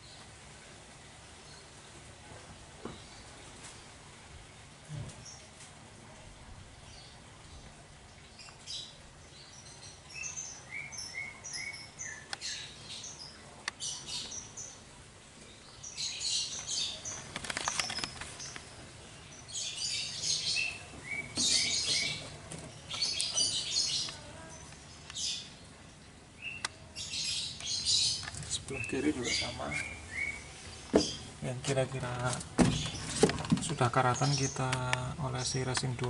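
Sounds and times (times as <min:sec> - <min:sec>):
small birds chirping: 0:06.7 - 0:36.0.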